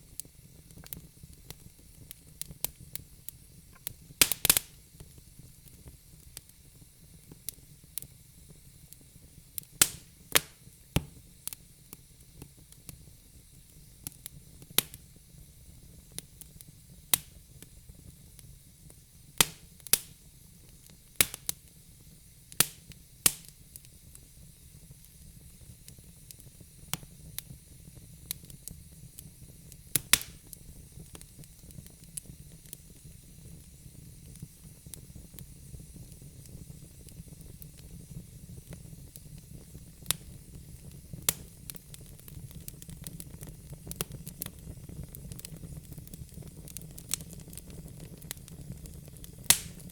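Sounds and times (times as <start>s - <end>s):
wood fire crackling and popping: 0.0s - 49.9s.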